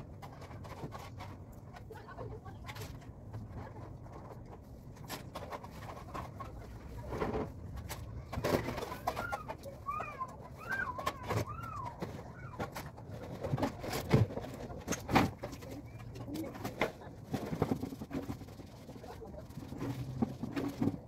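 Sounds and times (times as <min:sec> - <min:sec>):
rustling: 0:00.0 - 0:21.0.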